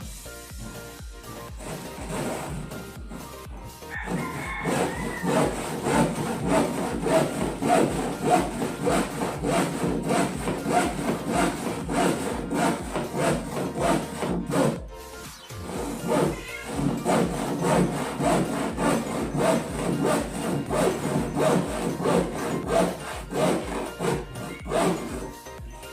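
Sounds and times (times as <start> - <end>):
handsaw cutting wood: 0.5 - 25.9.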